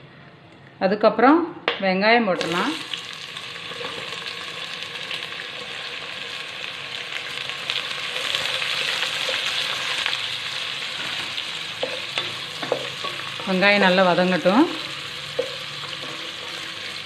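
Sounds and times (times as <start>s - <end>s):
onions sizzling in oil: 2.4s - 17.0s.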